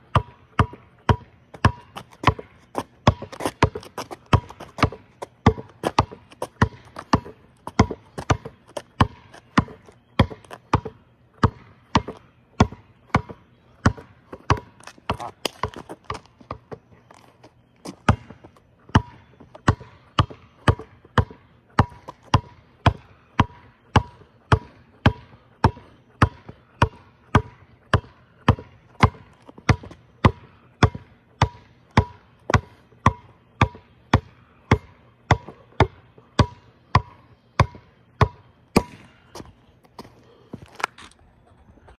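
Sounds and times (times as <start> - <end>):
ball bouncing: 0.1 - 16.8, 17.8 - 39.5.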